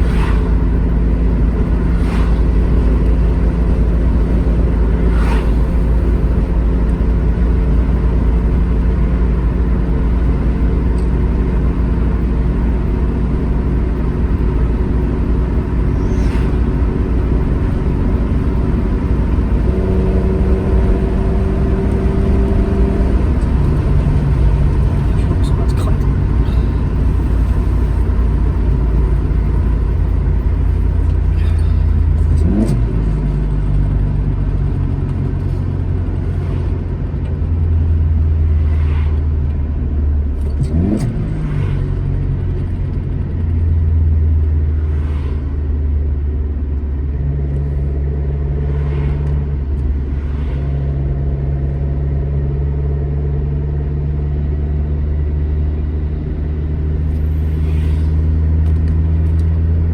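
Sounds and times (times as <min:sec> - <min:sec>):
car engine pulling with gear changes: 0:00.0 - 0:59.9.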